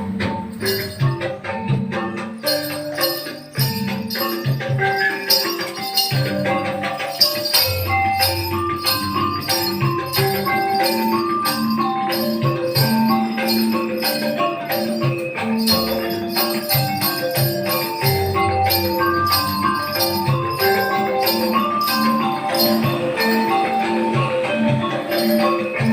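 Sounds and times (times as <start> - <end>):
metallophone melody: 0.0 - 25.9
percussion strokes: 0.0 - 25.9.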